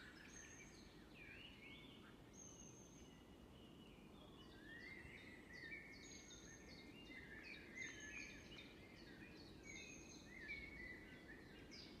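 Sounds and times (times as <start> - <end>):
faint birdsong chirps and trills: 0.0 - 12.0.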